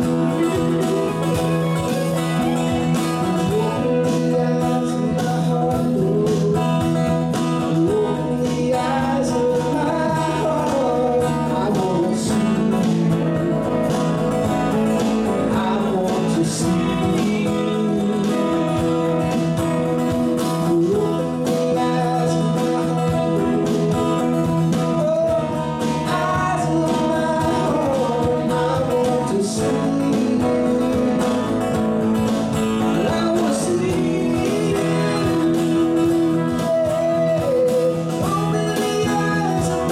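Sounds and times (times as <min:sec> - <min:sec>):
drum kit: 0:00.0 - 0:39.9
electric bass: 0:00.0 - 0:39.9
electric guitar: 0:00.0 - 0:39.9
man singing: 0:00.0 - 0:39.9
strummed acoustic guitar: 0:00.0 - 0:39.9.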